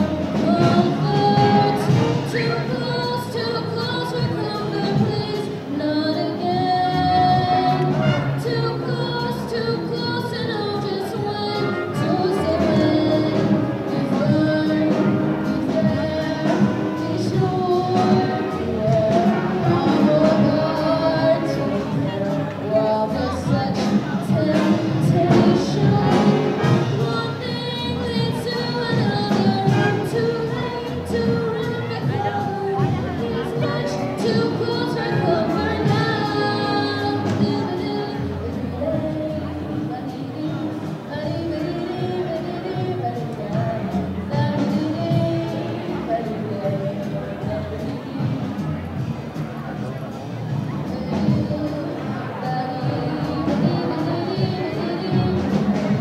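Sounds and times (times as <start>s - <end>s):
brass and saxophone band playing: 0.0s - 56.0s.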